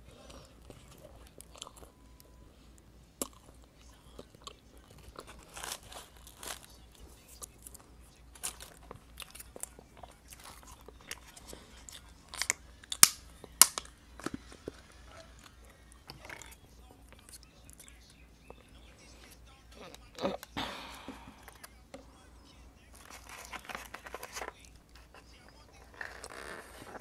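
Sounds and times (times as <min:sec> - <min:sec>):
chewing crusty bread: 0:00.0 - 0:20.6, 0:21.2 - 0:27.0.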